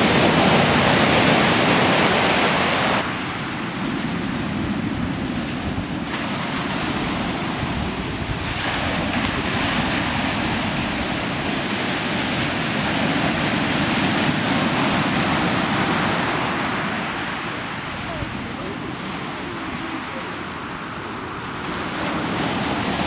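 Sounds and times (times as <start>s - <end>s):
surf washing up shingle beach: 0.0s - 23.0s
wind rumbling on microphone: 0.0s - 23.0s.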